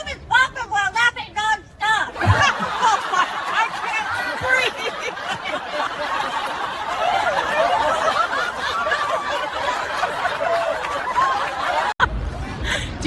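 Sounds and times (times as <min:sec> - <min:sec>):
people laughing: 0:02.1 - 0:13.0.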